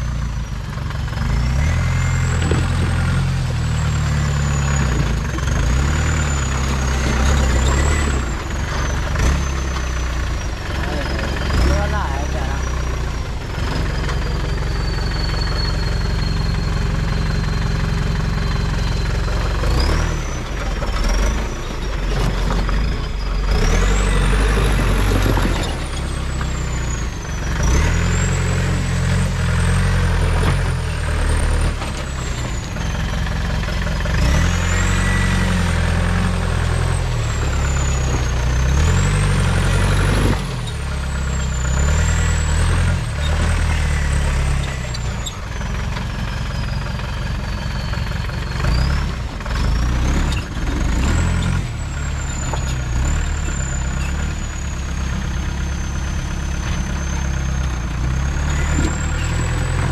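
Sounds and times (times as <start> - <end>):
engine revving in low gear: 0.8 - 45.7, 48.0 - 59.9.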